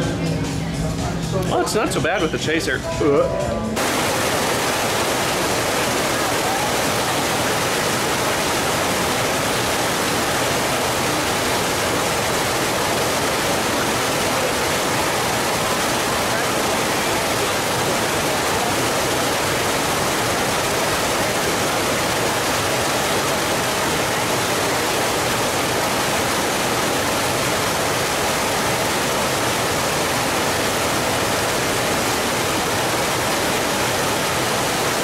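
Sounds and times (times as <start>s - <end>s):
steady rushing noise: 3.8s - 35.0s.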